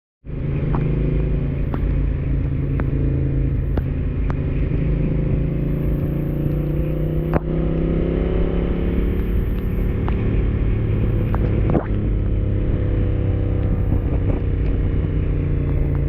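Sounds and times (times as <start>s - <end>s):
motorcycle engine running: 0.2s - 16.0s.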